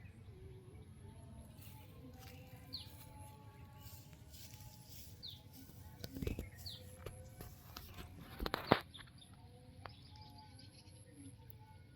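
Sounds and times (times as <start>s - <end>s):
faint outdoor background hiss: 0.0s - 11.9s
bird chirping: 1.6s - 11.8s.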